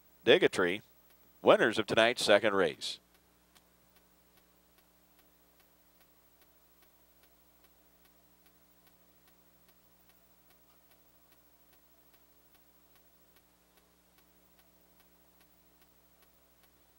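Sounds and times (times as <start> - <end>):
faint evenly spaced ticks: 0.0 - 16.9
faint steady hum: 0.0 - 16.9.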